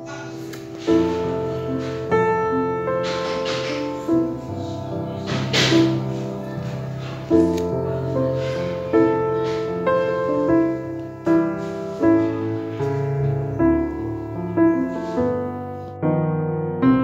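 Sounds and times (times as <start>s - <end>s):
slow gentle piano melody: 0.0s - 17.0s.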